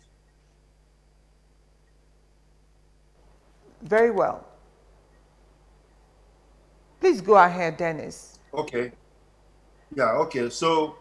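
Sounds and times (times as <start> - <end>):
faint line hum and hiss: 0.0 - 11.0.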